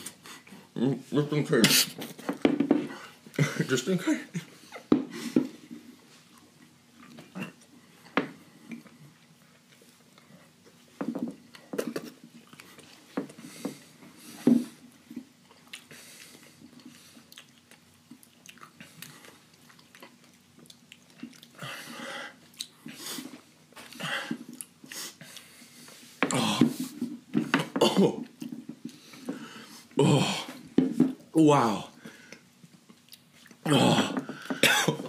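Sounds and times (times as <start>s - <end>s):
people chewing and crunching: 4.4s - 31.3s, 32.0s - 35.0s.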